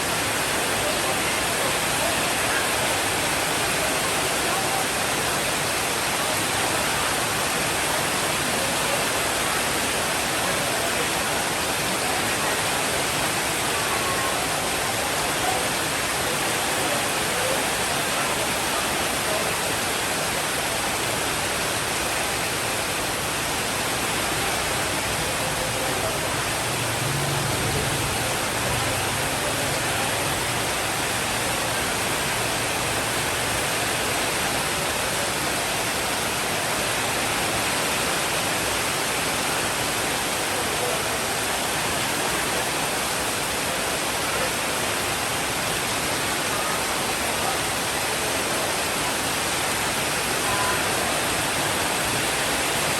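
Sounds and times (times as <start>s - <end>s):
rain hissing: 0.0s - 52.9s.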